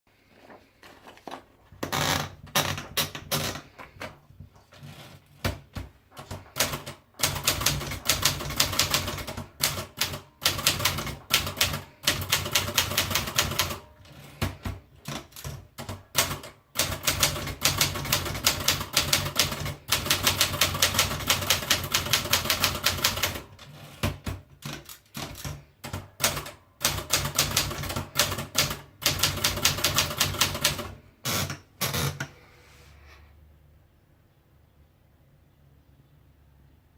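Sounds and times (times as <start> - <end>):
manual typewriter typing: 1.9 - 32.3.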